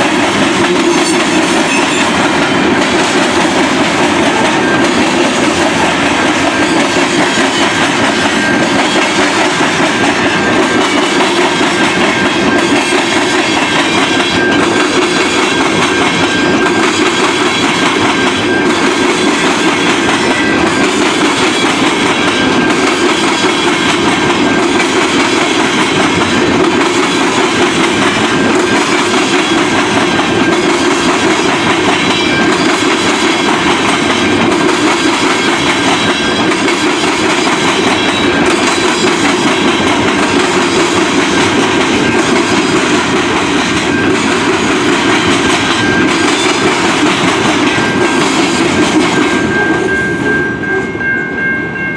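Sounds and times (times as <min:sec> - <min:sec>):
wheels clacking over rail joints: 0:00.0 - 0:50.2
train cars rolling past: 0:00.0 - 0:51.8.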